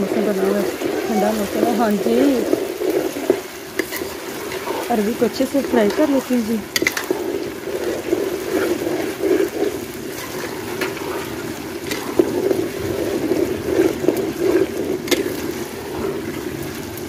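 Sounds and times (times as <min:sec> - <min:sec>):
metal spoon stirring and scraping: 0:00.0 - 0:16.4
food frying in oil: 0:00.0 - 0:17.0.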